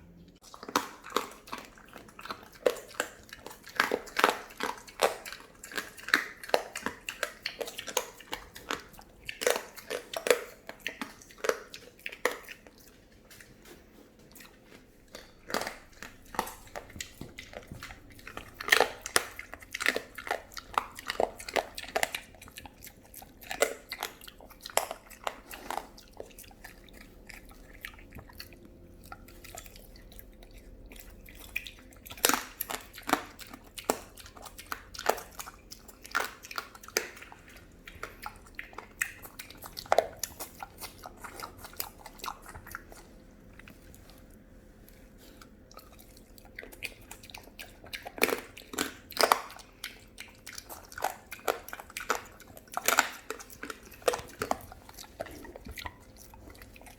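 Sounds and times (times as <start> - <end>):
pig chewing with wet smacks: 0.0 - 56.9.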